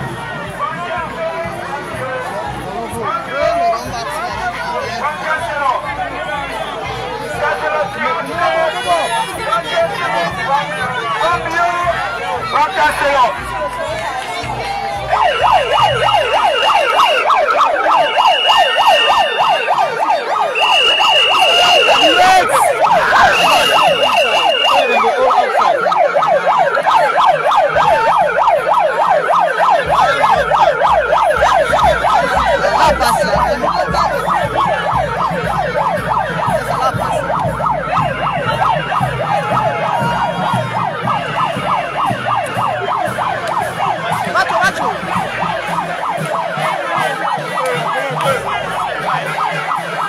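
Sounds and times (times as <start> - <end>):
megaphone siren warbling: 0.1 - 50.0.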